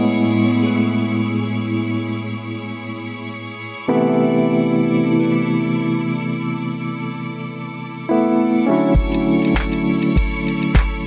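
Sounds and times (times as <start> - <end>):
music of long held chords: 0.0 - 11.0.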